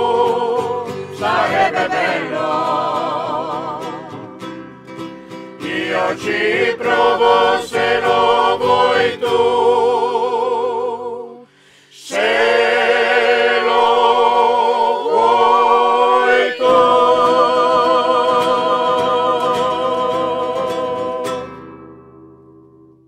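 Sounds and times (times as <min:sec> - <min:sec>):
vocal group singing in harmony: 0:00.0 - 0:04.4, 0:05.5 - 0:21.6.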